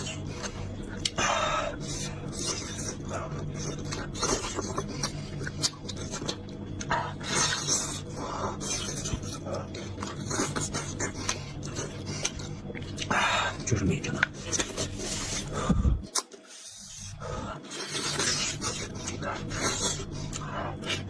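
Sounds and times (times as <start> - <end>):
person chewing and gnawing: 0.0 - 21.0
steady low hum: 0.0 - 21.0.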